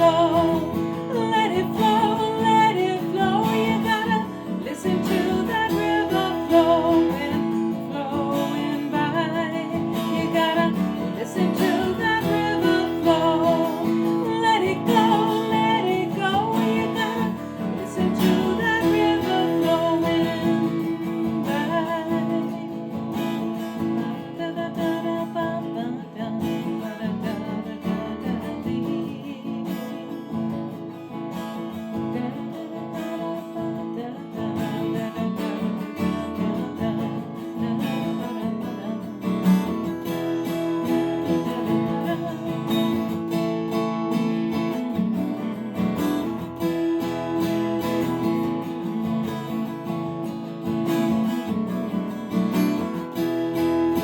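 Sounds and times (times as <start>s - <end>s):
acoustic guitar strummed: 0.0s - 54.0s.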